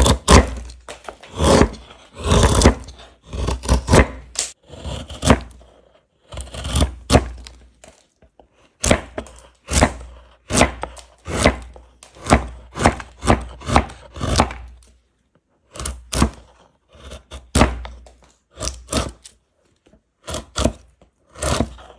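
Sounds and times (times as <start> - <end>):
hand tool chopping wood: 0.0 - 5.6, 6.4 - 8.0, 8.8 - 14.8, 15.8 - 16.5, 17.1 - 19.4, 20.3 - 21.9.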